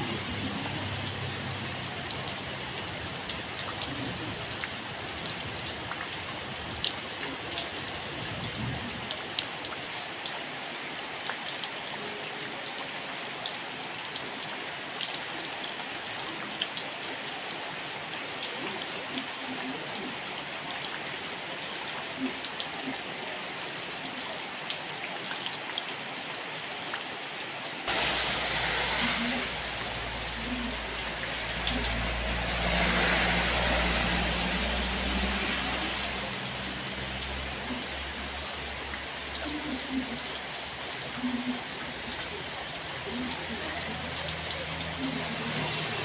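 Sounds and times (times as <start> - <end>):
heavy rain falling: 0.0 - 46.0
raindrops ticking and splashing: 0.0 - 46.0.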